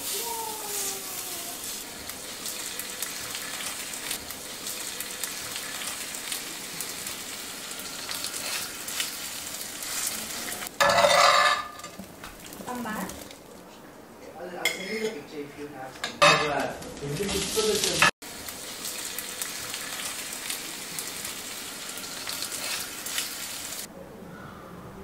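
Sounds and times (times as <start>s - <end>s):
batter sizzling in skillet: 0.0s - 13.6s, 16.4s - 23.9s.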